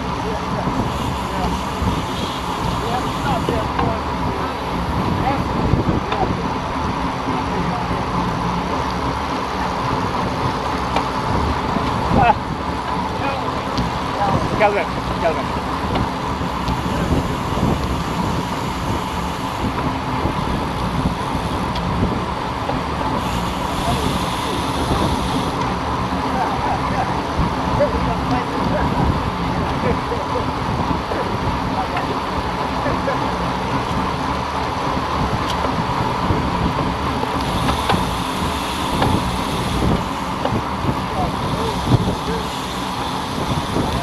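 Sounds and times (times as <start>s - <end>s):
road noise: 0.0s - 44.0s
wind rushing over microphone: 0.0s - 44.0s.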